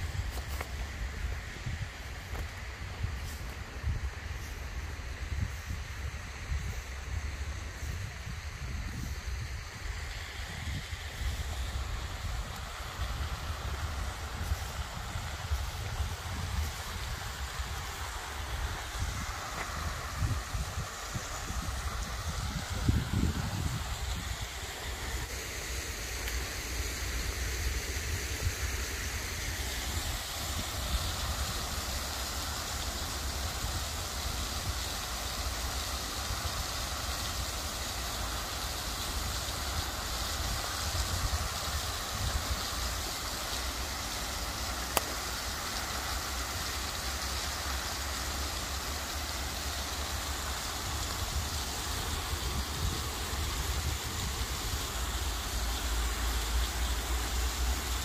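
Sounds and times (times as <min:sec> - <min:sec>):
fountain jets splashing: 0:00.0 - 0:58.0.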